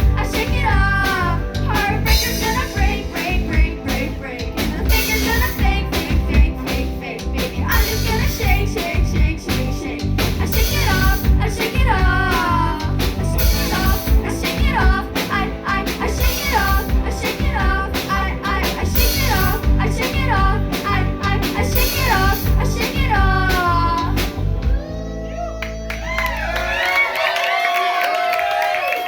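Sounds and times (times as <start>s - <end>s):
pounding drum kit: 0.0s - 25.0s
person singing: 0.0s - 26.3s
guitar: 0.0s - 26.6s.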